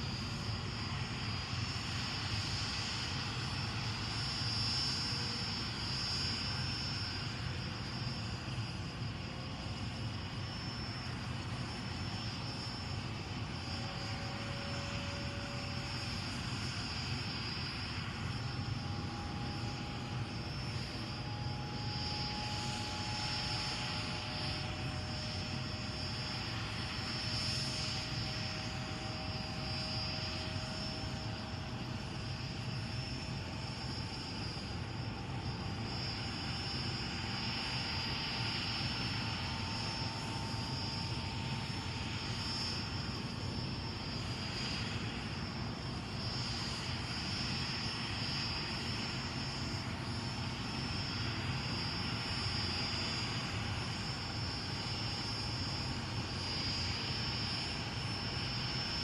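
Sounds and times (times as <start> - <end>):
helicopter rotor noise: 0.0 - 59.0
turbine whine: 0.0 - 59.0.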